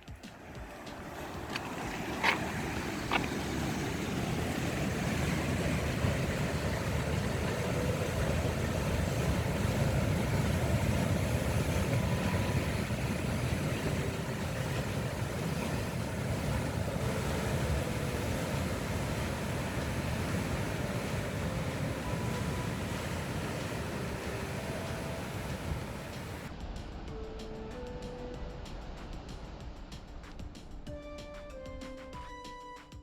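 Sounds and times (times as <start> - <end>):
sea surf churning: 0.0 - 30.8
wind: 0.0 - 32.7.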